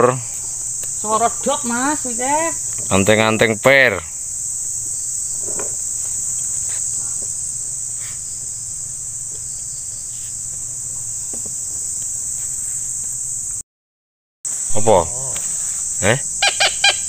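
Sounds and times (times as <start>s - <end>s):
insects chirring: 0.0s - 13.6s, 14.5s - 17.0s.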